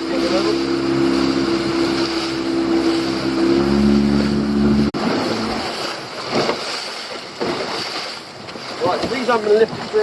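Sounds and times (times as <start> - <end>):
boat engine running: 0.0 - 10.0
water noise: 0.0 - 10.0.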